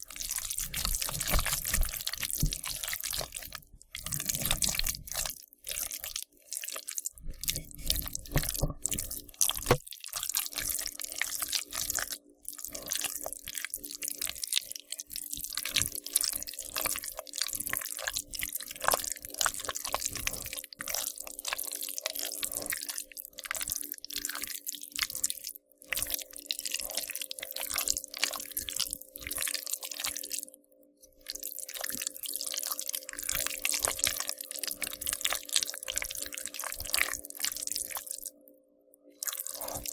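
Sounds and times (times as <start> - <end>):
slime squishing and squelching: 0.0 - 30.5, 31.2 - 38.3, 39.2 - 39.9.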